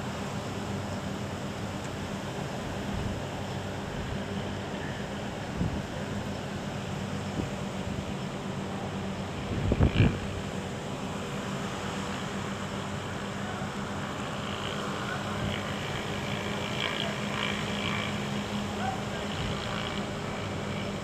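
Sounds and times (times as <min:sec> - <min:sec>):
low constant hum: 0:00.0 - 0:21.0.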